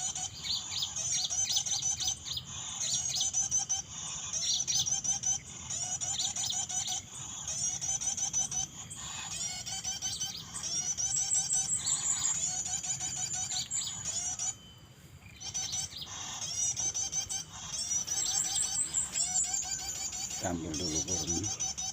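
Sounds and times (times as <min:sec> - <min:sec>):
songbird twittering: 0:00.0 - 0:21.9.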